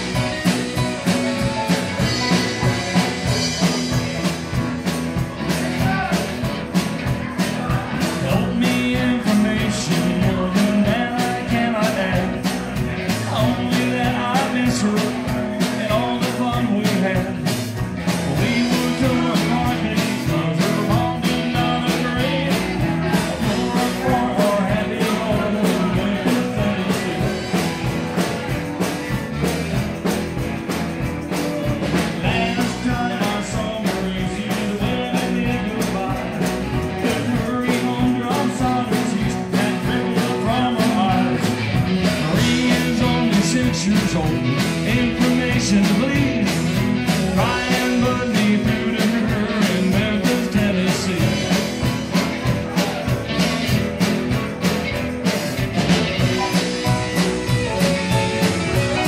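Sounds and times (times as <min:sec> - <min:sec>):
bass guitar: 0:00.0 - 0:59.0
drum kit beat: 0:00.0 - 0:59.0
electric guitar: 0:00.0 - 0:59.0
keyboard: 0:00.0 - 0:59.0.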